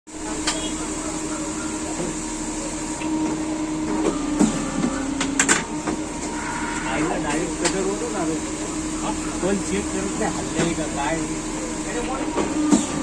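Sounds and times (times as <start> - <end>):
paper cutting machine humming: 0.2 - 13.0.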